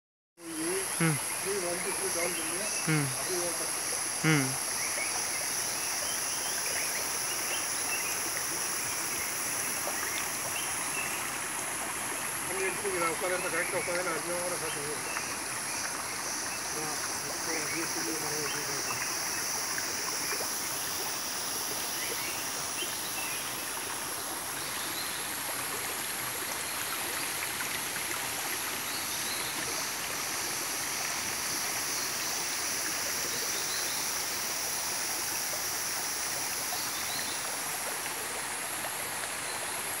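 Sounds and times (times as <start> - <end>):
stream running over stones: 0.4 - 40.0.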